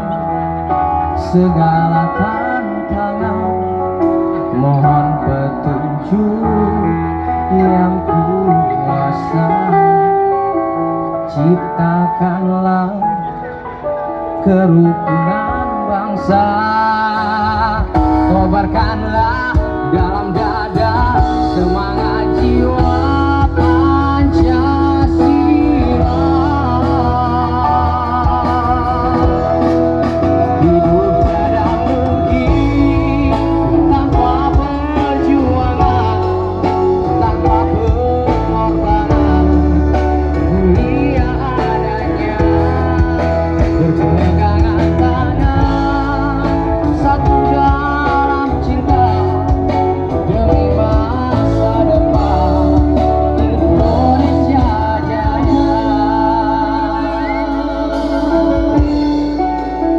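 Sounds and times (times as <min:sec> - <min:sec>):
band playing a song: 0:00.0 - 0:59.9.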